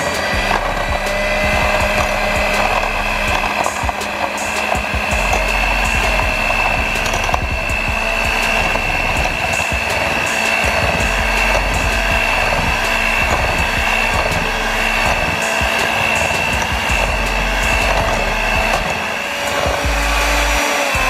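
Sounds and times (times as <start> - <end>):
electric hand mixer whining: 0.0 - 21.0.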